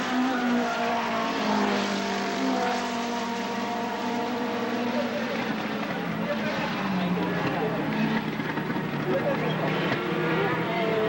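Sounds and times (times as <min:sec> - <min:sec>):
race car engines at high revs: 0:00.0 - 0:11.0.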